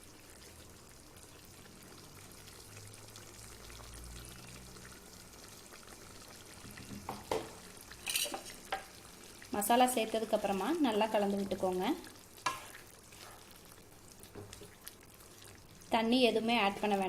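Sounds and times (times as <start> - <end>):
wet bubbling simmer: 0.0 - 8.0, 8.6 - 17.0.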